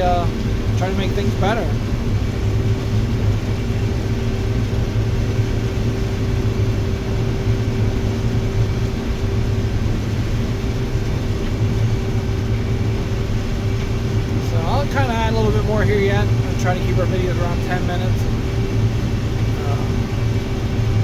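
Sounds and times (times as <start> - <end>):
combine harvester drone: 0.0 - 21.0
steady hum: 0.0 - 21.0.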